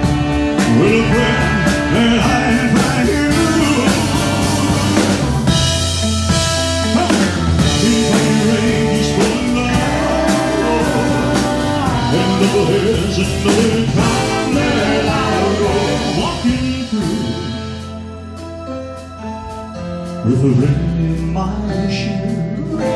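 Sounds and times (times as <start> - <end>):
rock and roll band playing: 0.0 - 22.9.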